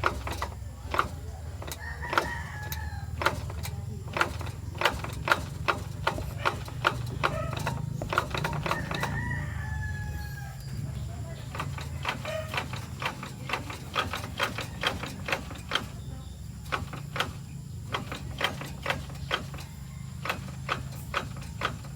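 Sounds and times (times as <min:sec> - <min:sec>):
car engine and road drone: 0:00.0 - 0:21.9.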